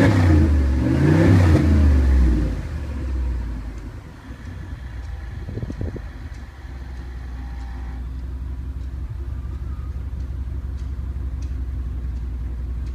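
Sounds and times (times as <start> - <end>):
car engine idling with exhaust drone: 0.0 - 12.9.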